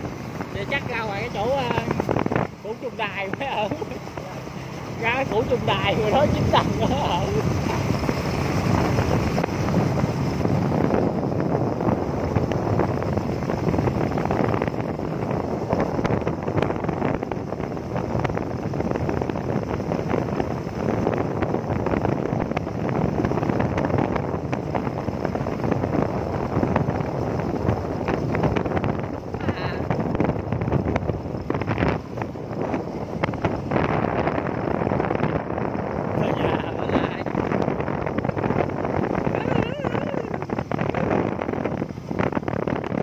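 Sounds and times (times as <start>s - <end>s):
motorbike running: 0.0s - 43.0s
wind buffeting microphone: 0.0s - 43.0s.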